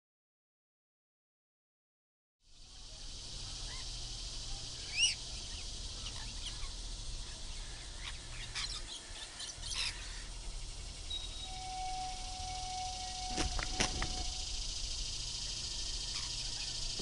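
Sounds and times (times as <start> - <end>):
steady hiss and low hum: 2.4 - 17.0
birds chirping: 3.2 - 17.0.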